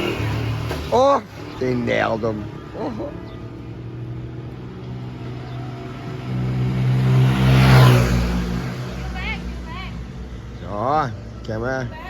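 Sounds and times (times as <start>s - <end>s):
vehicle engine passing by: 0.0s - 11.9s.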